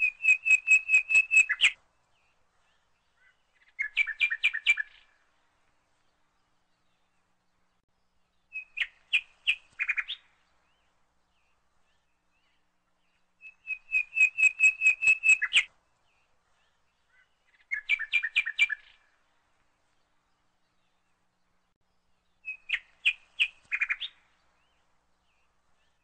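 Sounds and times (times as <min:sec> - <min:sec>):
bird chirping: 0:00.0 - 0:05.3, 0:05.9 - 0:26.0.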